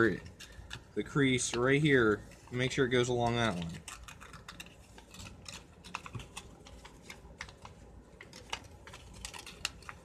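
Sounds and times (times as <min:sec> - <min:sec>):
crisp paper crackles: 0:00.0 - 0:10.0
paper being folded: 0:00.0 - 0:10.0.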